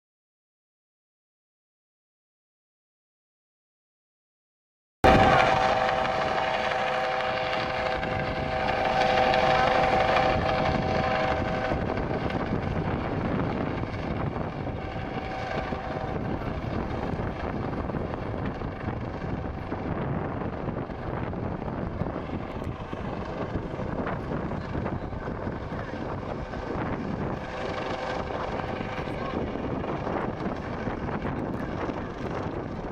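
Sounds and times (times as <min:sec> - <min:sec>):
helicopter rotor and engine whine: 0:05.0 - 0:32.9.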